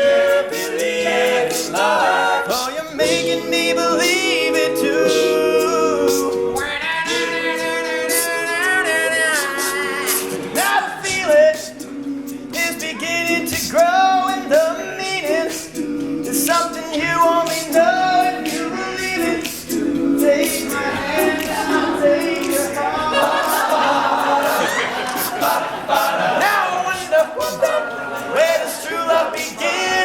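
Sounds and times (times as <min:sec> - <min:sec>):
male a cappella group singing: 0:00.0 - 0:30.0
vocal percussive accents: 0:00.0 - 0:30.0.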